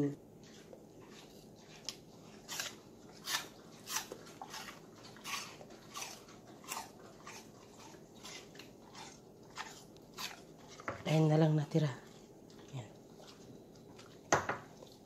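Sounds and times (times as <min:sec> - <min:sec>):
dog crunching apple: 0:00.4 - 0:15.0.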